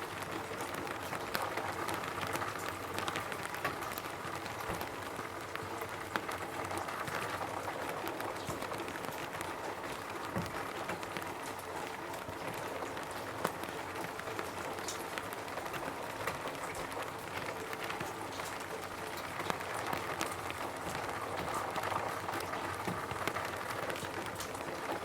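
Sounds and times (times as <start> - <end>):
rain hissing on a roof: 0.0 - 25.0
raindrops ticking on roof: 0.0 - 25.0.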